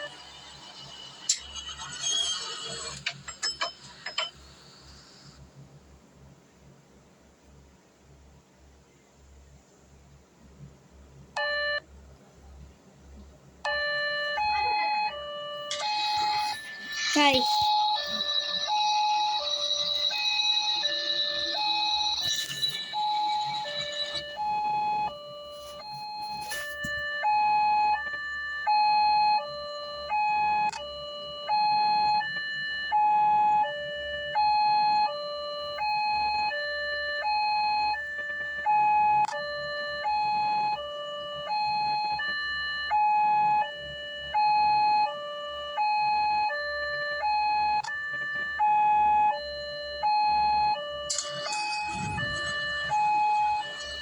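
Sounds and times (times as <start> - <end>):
two-tone siren: 0.0 - 3.0, 11.4 - 11.8, 13.6 - 54.0.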